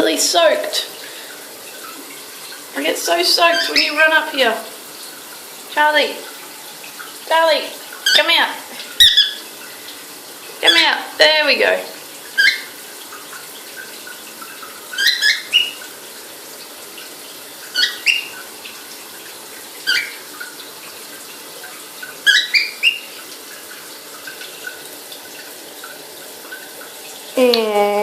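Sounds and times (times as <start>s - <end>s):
running water hiss: 0.0s - 28.0s.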